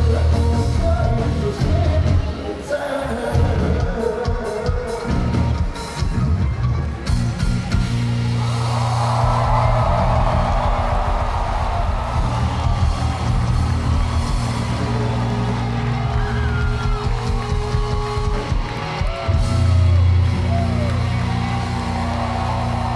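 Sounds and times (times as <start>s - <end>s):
rock band playing live: 0.0s - 22.9s.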